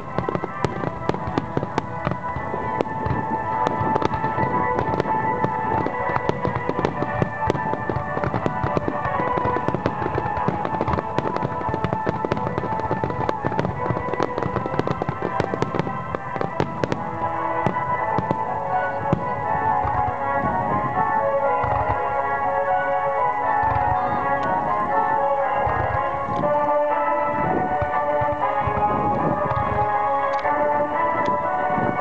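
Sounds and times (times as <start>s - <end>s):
fireworks bursting and crackling: 0.0s - 32.0s
music: 0.0s - 32.0s.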